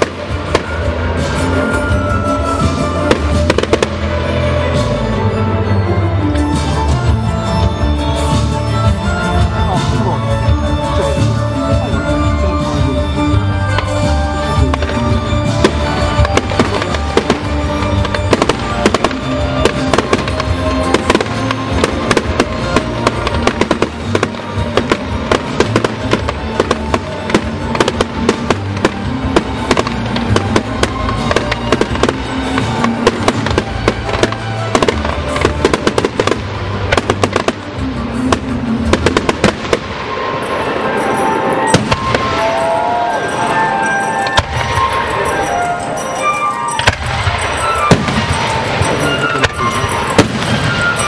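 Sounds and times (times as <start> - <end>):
fireworks bangs and crackles: 0.0 - 51.0
loud music: 0.0 - 51.0.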